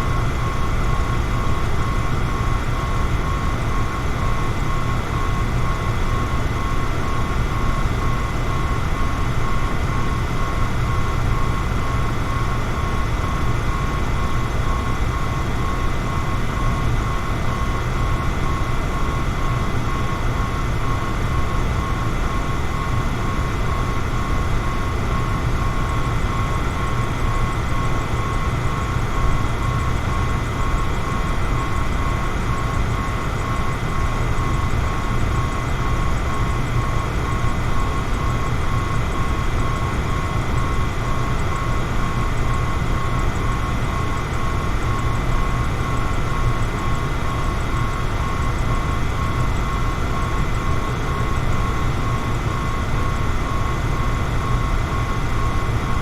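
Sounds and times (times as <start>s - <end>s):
electric fan running: 0.0s - 56.0s.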